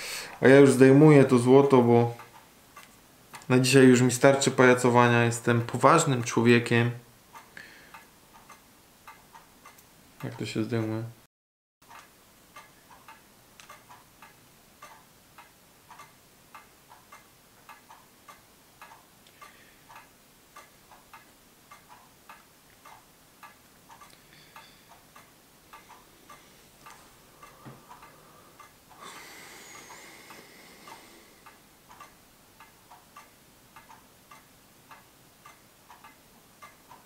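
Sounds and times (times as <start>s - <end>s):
clock ticking: 0.3s - 10.9s, 11.8s - 37.0s.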